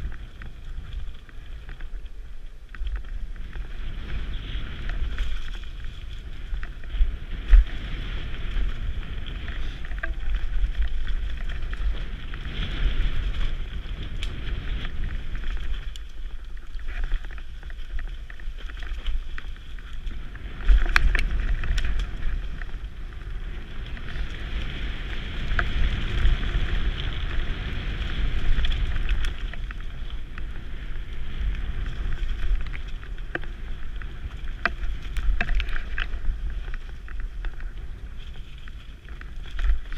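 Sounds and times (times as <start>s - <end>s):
bike tyres on rough ground: 0.0s - 39.9s
wind on microphone: 0.0s - 39.9s.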